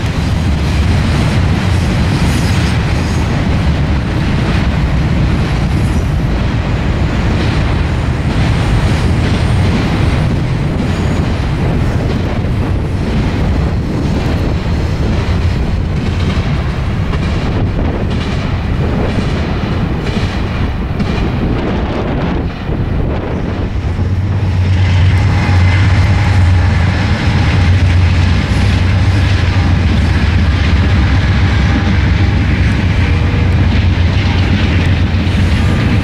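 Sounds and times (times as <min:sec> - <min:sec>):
diesel locomotives droning: 0:00.0 - 0:36.0
train wheels clicking over rail joints: 0:00.0 - 0:36.0.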